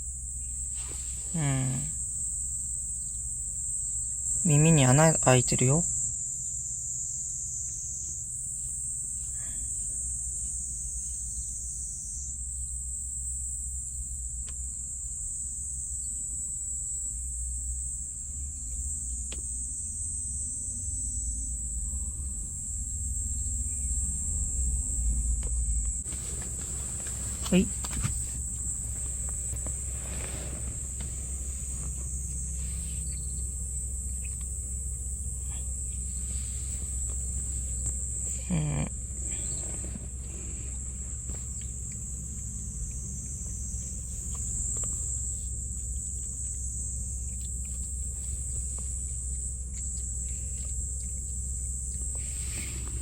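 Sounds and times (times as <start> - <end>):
insects chirring: 0.0 - 53.0
low steady hum: 0.0 - 53.0.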